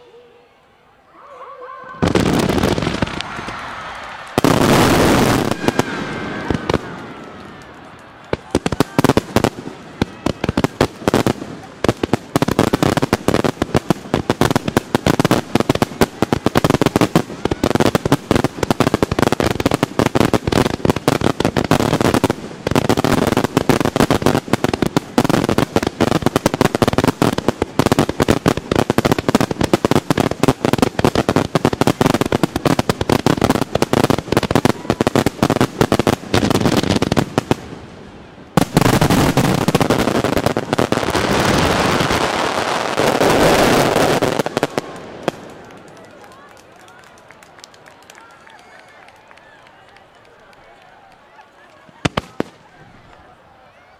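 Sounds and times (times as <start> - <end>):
fireworks bursting: 1.9 - 47.8, 51.7 - 53.2.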